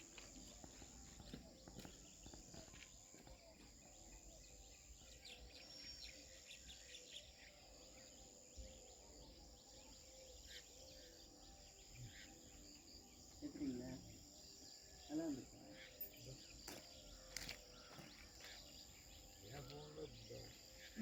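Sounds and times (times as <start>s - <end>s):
distant bird chirps: 0.0s - 21.0s
high insect drone: 0.0s - 21.0s.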